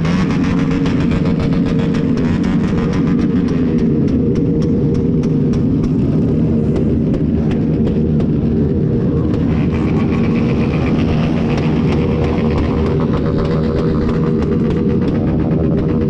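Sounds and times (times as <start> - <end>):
motorcycle engines running loud: 0.0 - 16.0.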